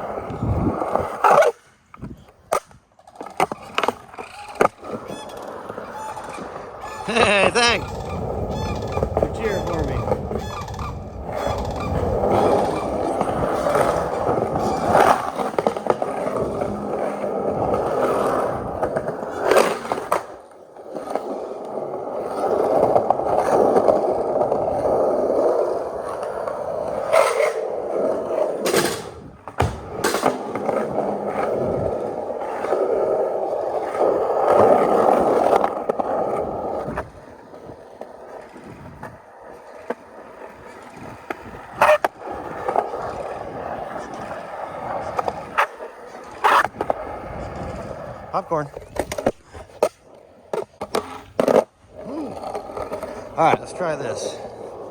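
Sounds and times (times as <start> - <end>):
skateboard clacking on ground: 0.0 - 54.9
skateboard wheels rolling: 0.0 - 54.9.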